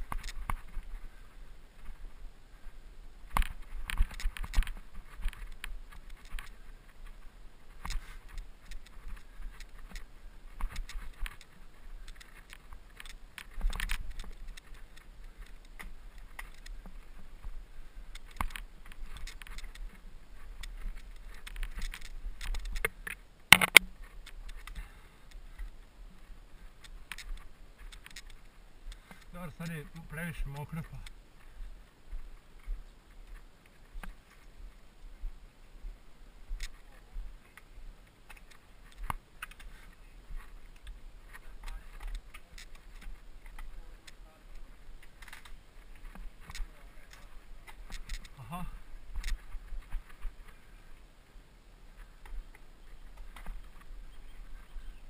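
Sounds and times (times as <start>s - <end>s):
mountain bike rattling on rough trail: 3.3s - 34.7s, 38.2s - 51.0s.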